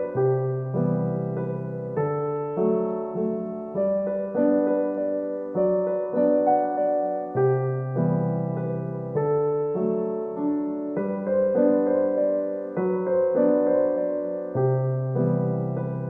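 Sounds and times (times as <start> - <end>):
gentle solo piano: 0.0 - 16.0.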